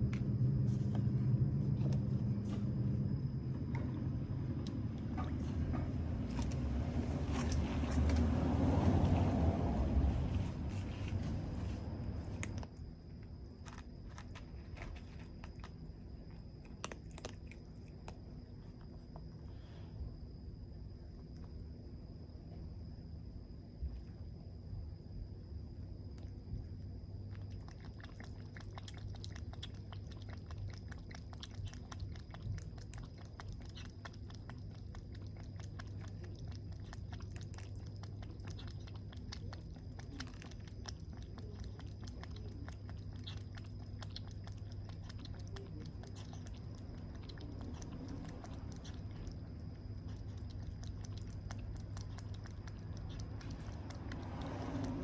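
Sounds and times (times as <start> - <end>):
kitten chewing and licking: 0.0 - 55.0
steady low hum: 0.0 - 55.0.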